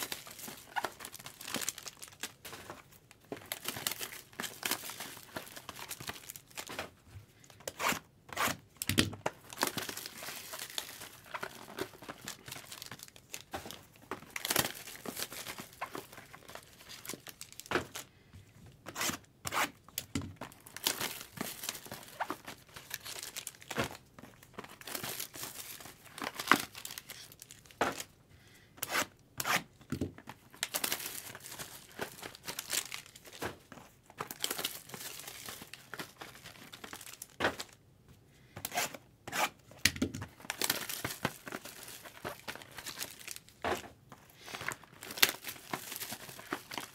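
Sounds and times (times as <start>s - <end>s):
packaging crinkling and rustling: 0.0s - 7.8s, 8.6s - 18.1s, 19.2s - 28.2s, 29.6s - 37.8s, 39.6s - 46.9s.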